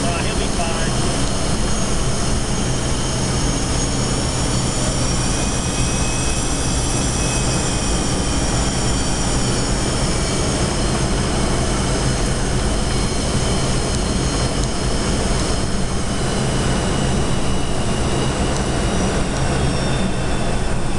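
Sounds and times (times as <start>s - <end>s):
low hum: 0.0s - 20.9s.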